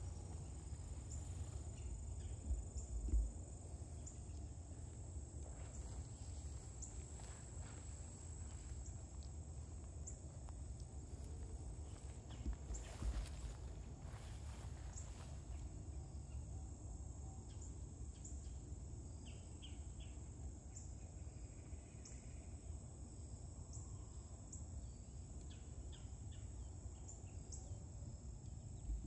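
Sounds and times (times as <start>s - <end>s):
high-pitched insect trill: 0.0s - 29.0s.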